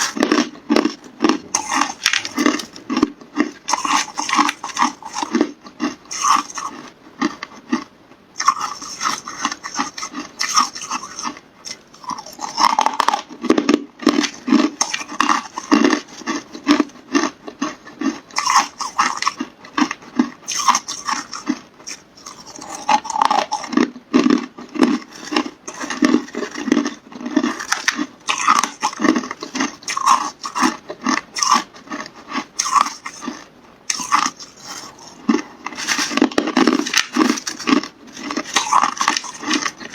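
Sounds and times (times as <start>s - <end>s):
person chewing ice crunching: 0.0s - 39.9s.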